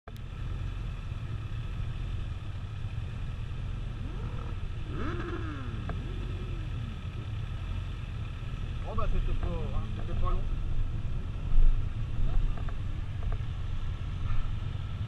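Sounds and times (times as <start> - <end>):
motorcycle engines idling: 0.1 - 15.0.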